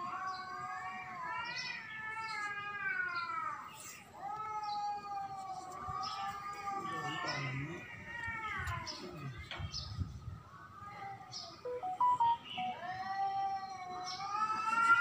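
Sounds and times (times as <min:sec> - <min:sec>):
cats yowling: 0:00.0 - 0:09.5, 0:10.4 - 0:15.0.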